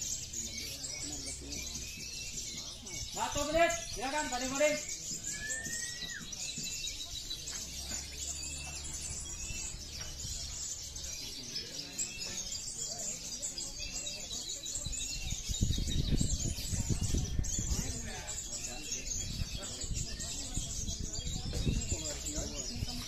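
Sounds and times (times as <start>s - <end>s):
songbirds chirping and twittering: 0.0s - 23.0s.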